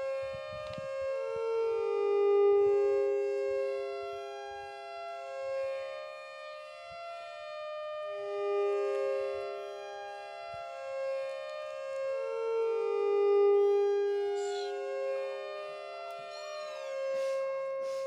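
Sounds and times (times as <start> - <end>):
slow melody of held notes: 0.0 - 18.0.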